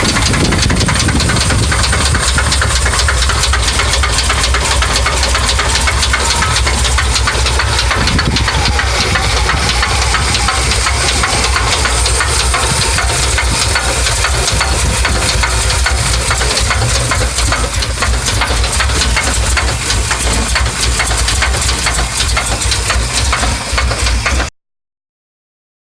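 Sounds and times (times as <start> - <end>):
car engine knocking: 0.0 - 24.5.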